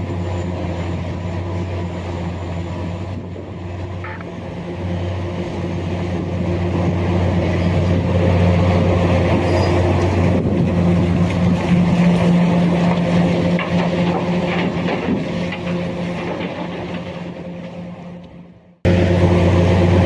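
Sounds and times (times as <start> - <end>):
large diesel engine droning: 0.0 - 20.0.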